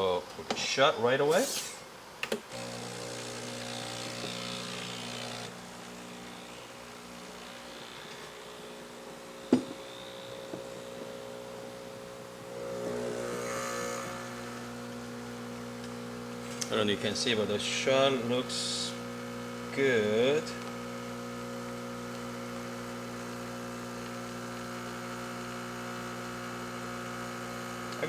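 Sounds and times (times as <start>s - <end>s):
espresso machine pump buzzing: 1.3s - 28.0s.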